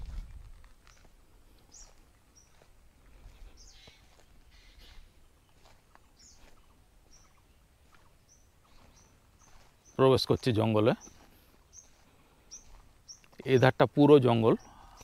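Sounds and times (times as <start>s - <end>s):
wild birds chirping: 0.8s - 15.0s.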